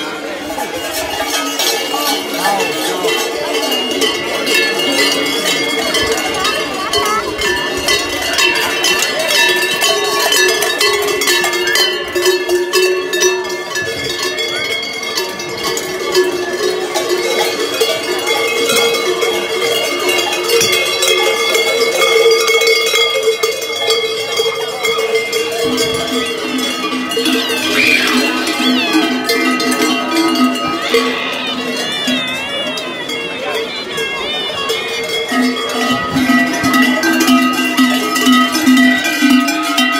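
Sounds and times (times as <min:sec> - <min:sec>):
cowbells clanging: 0:00.0 - 0:39.9
crowd chatter: 0:00.0 - 0:39.9.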